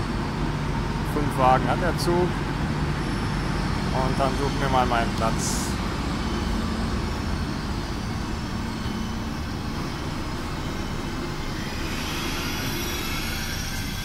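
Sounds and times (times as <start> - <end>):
standing train rumble and hum: 0.0 - 14.0.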